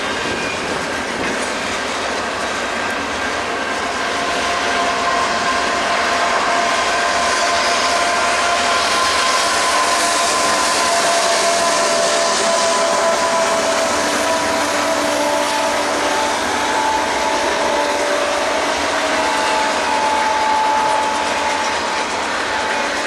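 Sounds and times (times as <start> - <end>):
diesel locomotive passing: 0.0 - 23.0
freight train wheels roaring on rail: 0.0 - 23.0.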